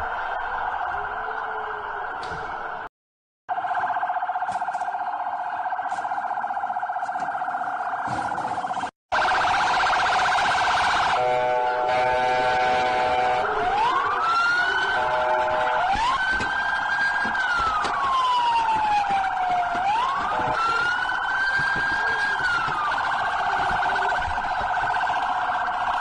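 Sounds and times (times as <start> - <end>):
police siren: 0.0 - 2.9, 3.5 - 26.0.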